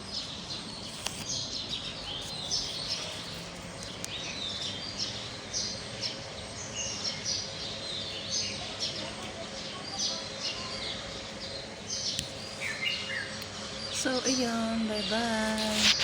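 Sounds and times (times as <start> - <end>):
small birds chirping: 0.0 - 16.0
steady background noise: 0.0 - 16.0.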